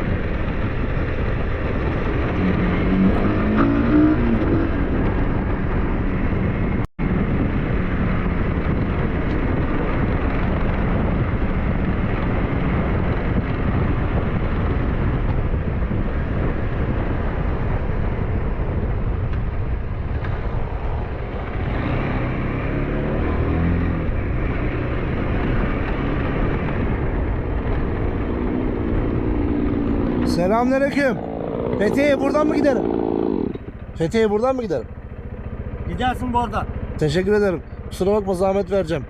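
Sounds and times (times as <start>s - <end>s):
wind on microphone: 0.0s - 34.0s
motorcycle engine running: 0.0s - 39.0s.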